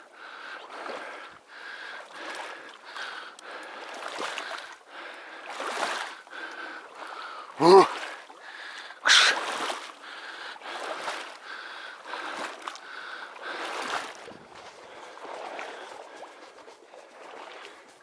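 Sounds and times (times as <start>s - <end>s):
water sloshing from wading: 0.4s - 18.0s.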